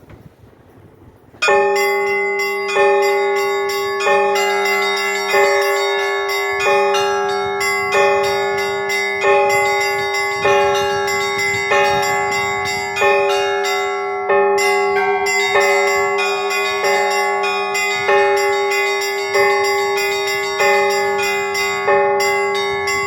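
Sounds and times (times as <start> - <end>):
deep church bell: 0.7 - 23.0
higher bells ringing: 1.3 - 23.0.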